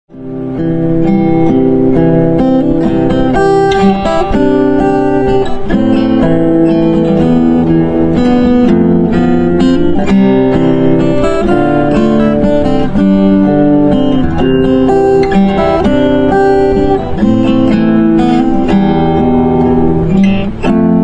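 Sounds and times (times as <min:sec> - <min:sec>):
acoustic guitar music: 0:00.1 - 0:21.0.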